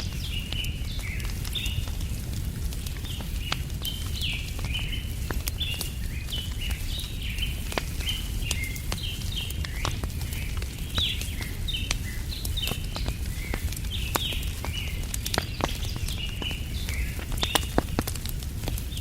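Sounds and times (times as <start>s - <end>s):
low fire rumble: 0.0s - 19.0s
small birds chirping: 0.0s - 19.0s
wood fire crackling and popping: 0.0s - 19.0s.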